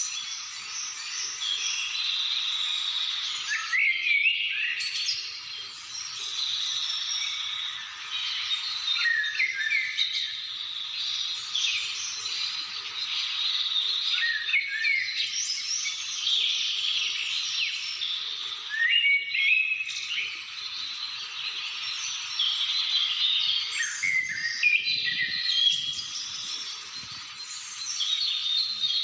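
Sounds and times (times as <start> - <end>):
chorus of birds singing: 0.0 - 29.0.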